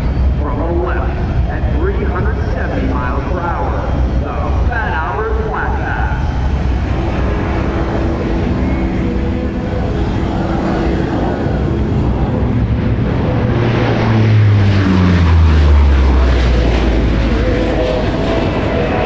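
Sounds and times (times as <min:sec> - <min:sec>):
propeller aircraft fly-by: 0:00.0 - 0:19.0.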